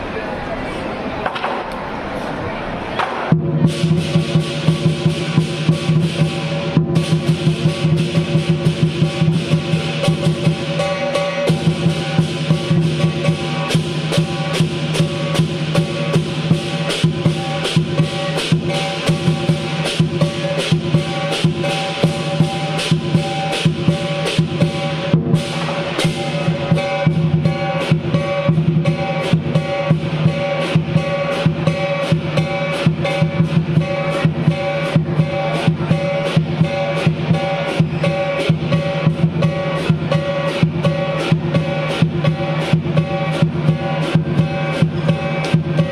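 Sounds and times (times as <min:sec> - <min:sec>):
drum beaten fast: 0:03.0 - 0:45.9
gong: 0:03.3 - 0:45.9
ringing cymbals: 0:03.5 - 0:45.9.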